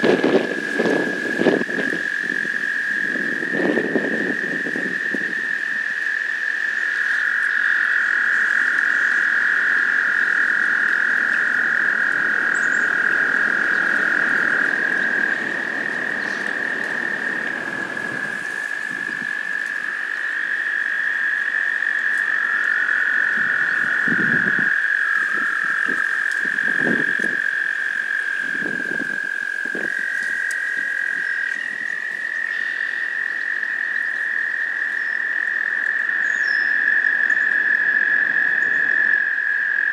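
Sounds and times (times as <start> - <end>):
toads trilling in chorus: 0.0 - 39.9.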